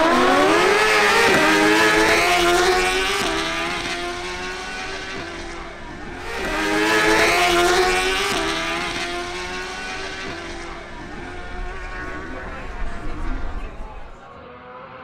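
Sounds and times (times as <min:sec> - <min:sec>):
motorcycles accelerating: 0:00.0 - 0:15.0.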